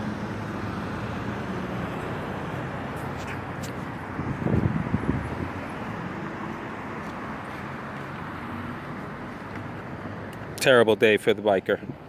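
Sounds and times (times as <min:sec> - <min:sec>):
passing road traffic: 0:00.0 - 0:12.0.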